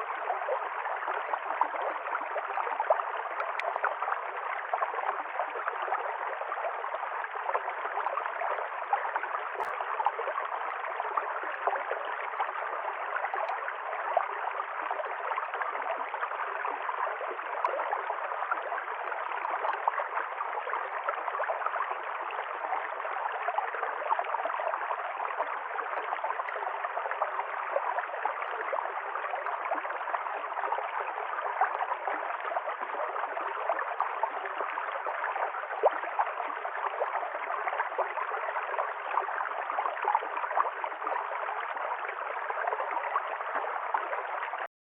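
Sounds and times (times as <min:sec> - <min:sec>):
stream gurgling over rocks: 0:00.0 - 0:44.7.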